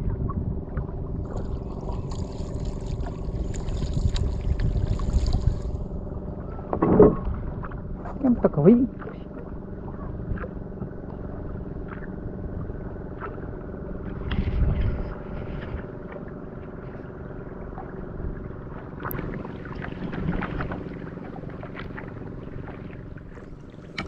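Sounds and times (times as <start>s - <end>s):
boat motor humming: 0.0s - 24.0s
water splashing and lapping: 0.7s - 6.0s, 6.9s - 24.0s.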